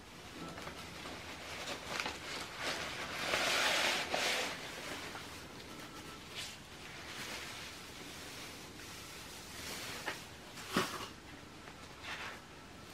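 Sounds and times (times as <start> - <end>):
shredded paper rustling: 0.4 - 11.0.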